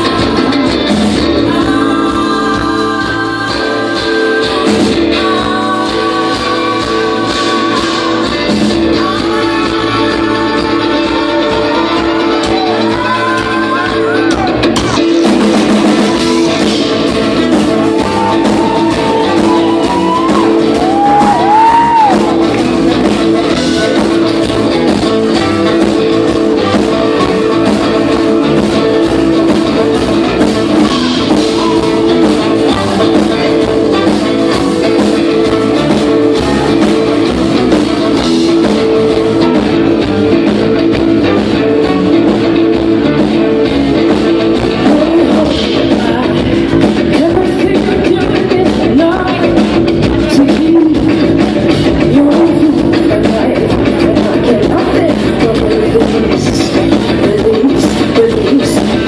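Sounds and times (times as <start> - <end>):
person singing: 0.0 - 40.0, 44.4 - 59.0
live rock band playing: 0.0 - 59.0.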